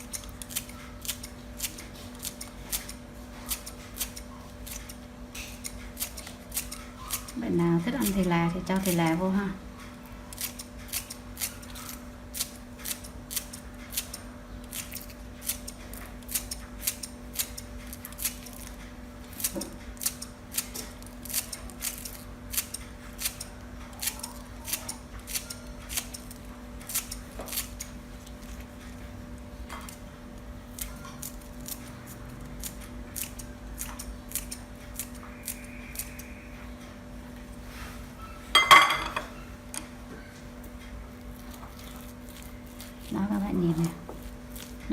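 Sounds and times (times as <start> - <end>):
scissors snipping herbs: 0.0 - 9.3, 10.3 - 28.9, 29.7 - 36.3, 41.2 - 44.9.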